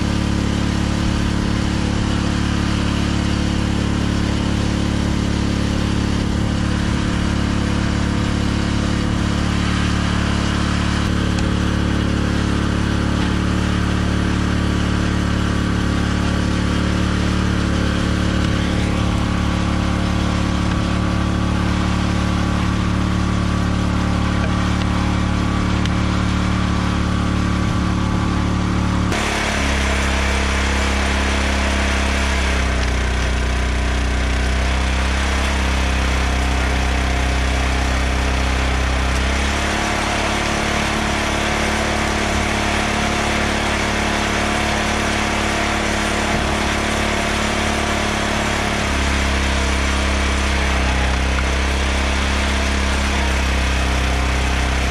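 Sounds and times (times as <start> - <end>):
log splitter engine running: 0.0 - 54.9.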